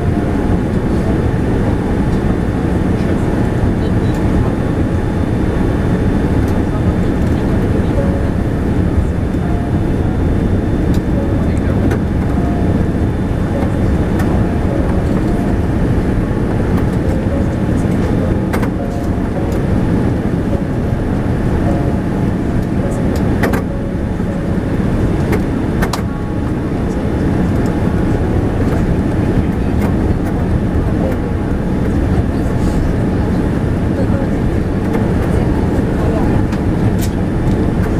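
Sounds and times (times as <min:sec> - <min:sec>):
airplane cabin engine noise: 0:00.0 - 0:37.9.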